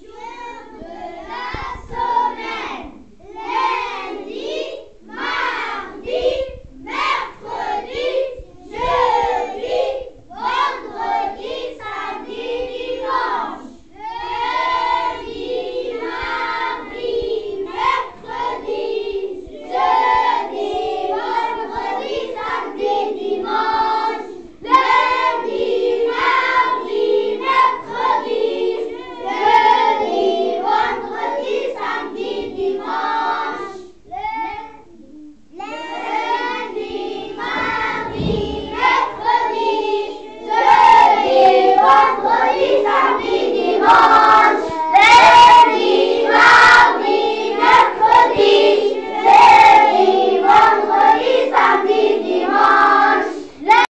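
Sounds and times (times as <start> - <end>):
children singing together: 0.0 - 53.9.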